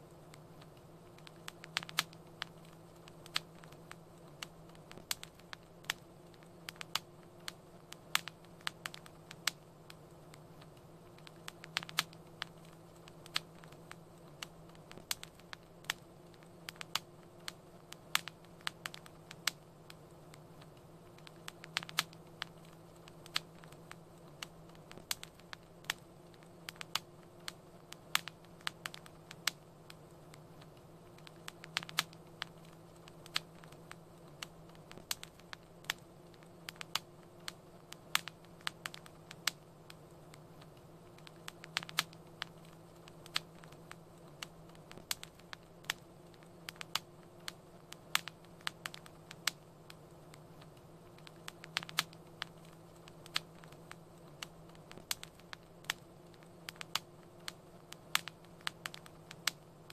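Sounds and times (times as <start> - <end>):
faint low hum: 0.0 - 59.9
wood fire crackling: 0.0 - 59.9.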